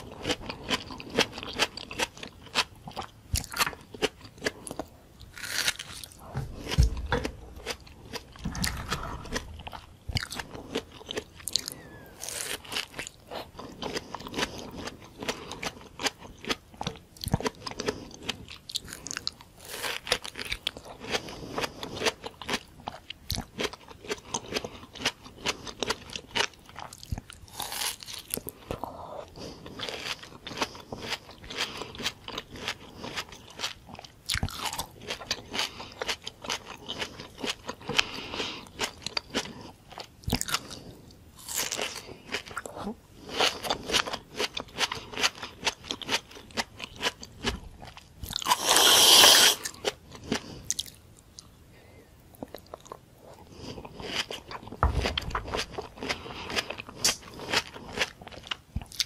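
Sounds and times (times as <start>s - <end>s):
biting and chewing crunches: 0.0s - 51.6s, 52.4s - 59.0s.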